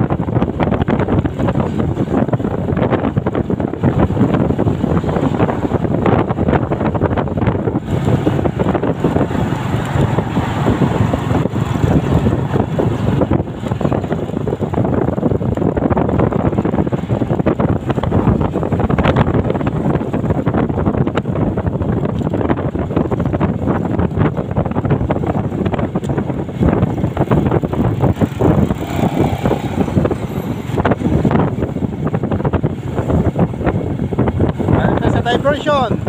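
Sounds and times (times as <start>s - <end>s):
motorcycle engine: 0.0s - 35.0s
road noise: 0.0s - 36.0s
wind rushing over microphone: 0.0s - 36.0s.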